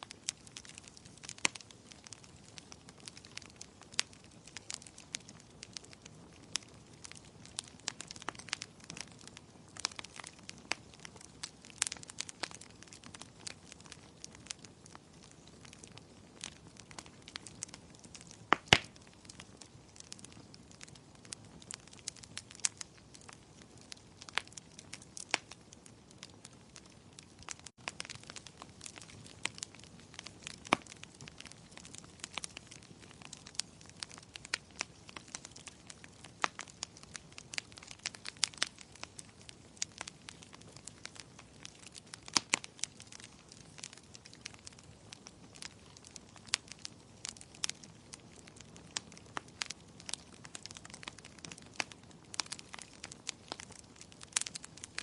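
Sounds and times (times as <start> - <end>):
soft steady hiss: 0.0 - 55.0
wood fire crackling: 0.0 - 55.0.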